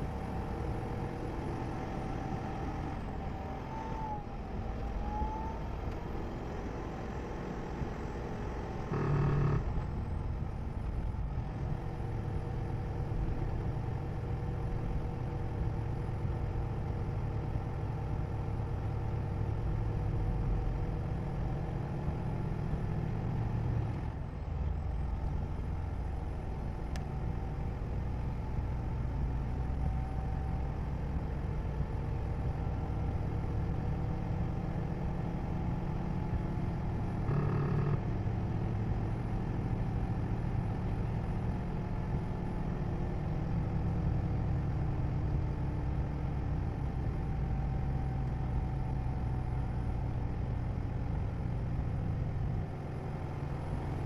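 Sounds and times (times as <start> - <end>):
vehicle road and engine rumble: 0.0 - 54.0.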